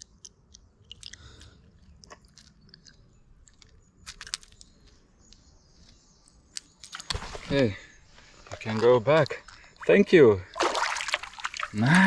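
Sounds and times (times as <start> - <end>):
handling clicks and rustles: 0.0 - 9.8.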